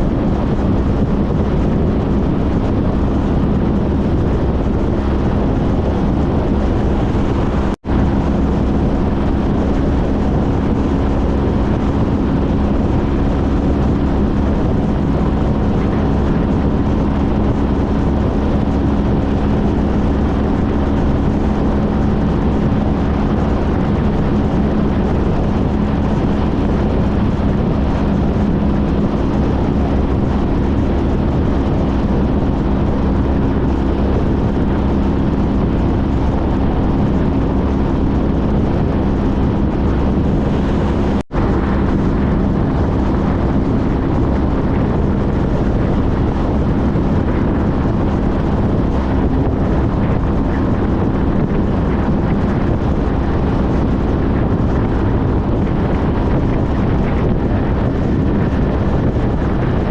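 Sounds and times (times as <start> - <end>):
motorcycle engine droning: 0.0 - 59.9
wind rushing over microphone: 0.0 - 59.9.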